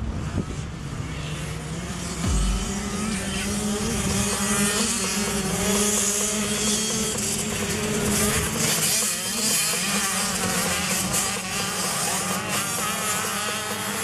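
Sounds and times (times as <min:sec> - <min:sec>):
many quad engines revving hard: 0:00.0 - 0:14.0.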